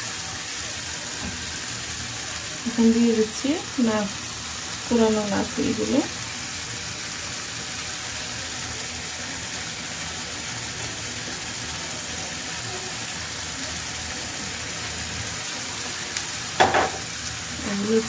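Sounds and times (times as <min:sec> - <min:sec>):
spices and oil sizzling in pan: 0:00.0 - 0:18.0.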